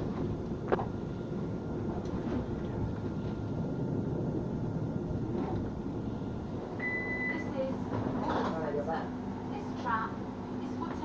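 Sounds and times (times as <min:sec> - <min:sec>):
tram wheels rumbling on rail: 0:00.0 - 0:06.8, 0:07.4 - 0:11.0
faint steady whine: 0:00.0 - 0:11.0.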